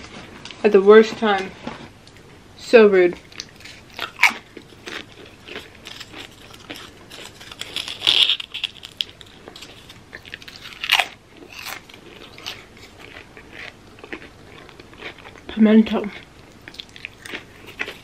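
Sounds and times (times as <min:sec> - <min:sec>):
chips crunching and chewing: 0:03.3 - 0:18.0.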